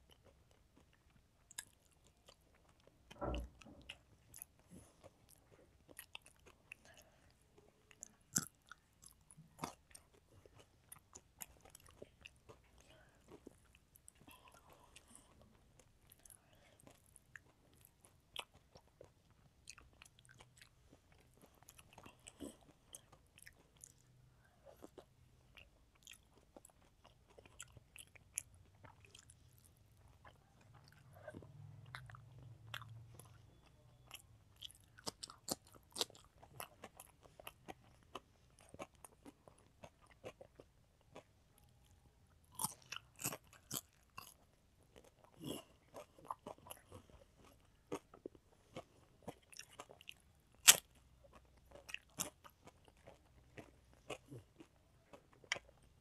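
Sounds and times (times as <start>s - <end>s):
child chewing food: 0.0s - 56.0s.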